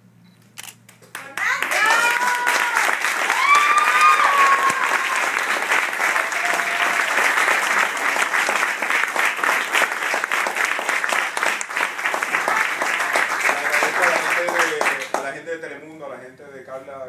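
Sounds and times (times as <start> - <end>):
audience applauding: 0.9 - 15.4.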